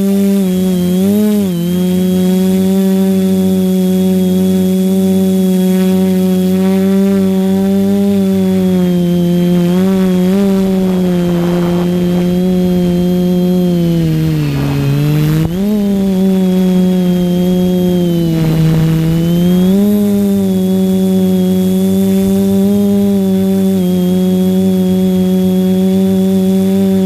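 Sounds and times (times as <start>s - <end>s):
drone propellers buzzing: 0.0s - 27.0s.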